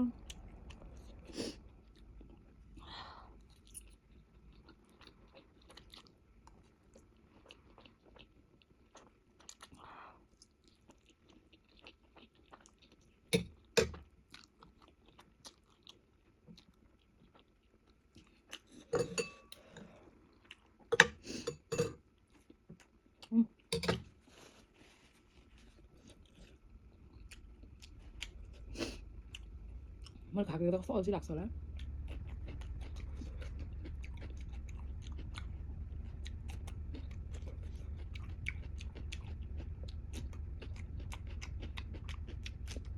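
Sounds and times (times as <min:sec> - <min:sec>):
chewing noodles: 0:03.4 - 0:23.8, 0:24.4 - 0:30.3, 0:31.6 - 0:42.9.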